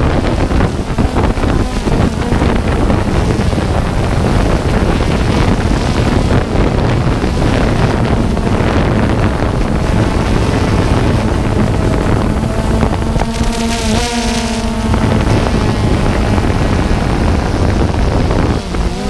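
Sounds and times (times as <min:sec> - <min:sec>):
drone propellers whirring: 0:00.0 - 0:19.0
wind buffeting microphone: 0:00.0 - 0:19.0.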